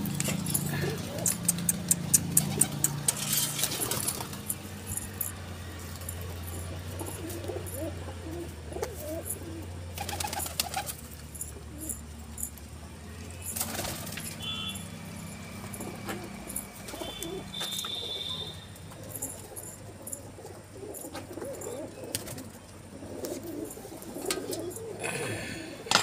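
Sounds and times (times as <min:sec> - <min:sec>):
pigeons cooing: 0:00.0 - 0:12.5, 0:15.4 - 0:26.0.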